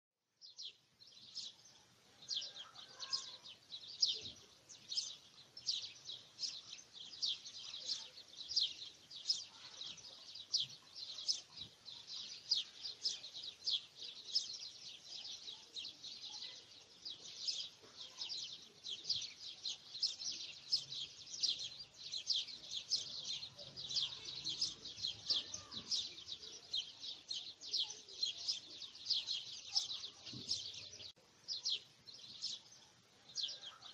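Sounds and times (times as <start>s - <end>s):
small birds chirping: 0.2s - 33.9s.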